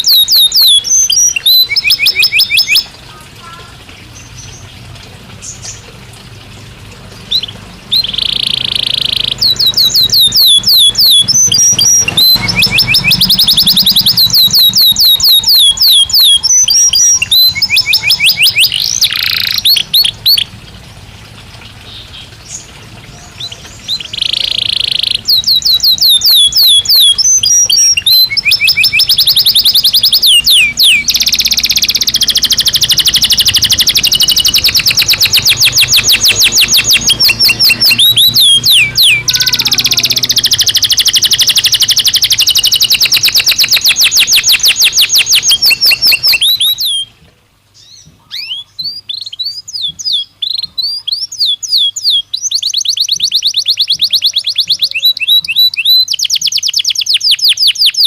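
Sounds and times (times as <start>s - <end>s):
canary singing trills: 0.0s - 6.0s, 7.0s - 20.9s, 21.8s - 47.2s, 47.8s - 58.0s.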